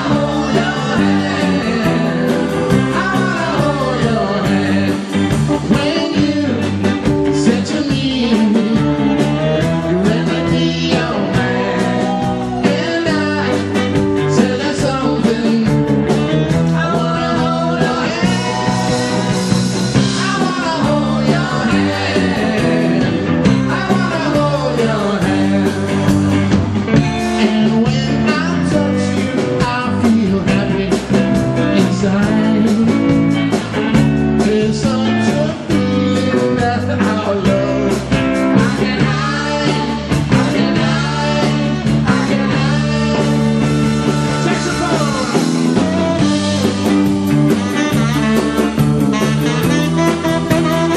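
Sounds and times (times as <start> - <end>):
person singing: 0.0 - 33.4, 34.0 - 50.9
drum kit: 0.0 - 50.9
electric bass: 0.0 - 50.9
electric guitar: 0.0 - 50.9.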